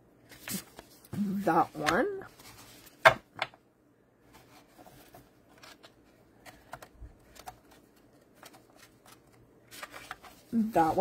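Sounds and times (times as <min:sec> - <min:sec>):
paper cards tapping and rustling: 0:00.3 - 0:03.6, 0:04.4 - 0:11.0.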